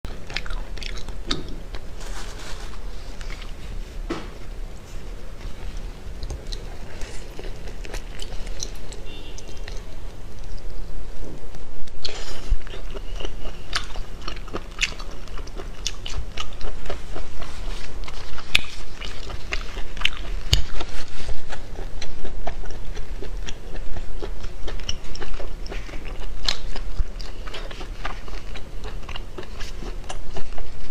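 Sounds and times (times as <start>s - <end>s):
person chewing crunchy food: 0.1s - 30.9s.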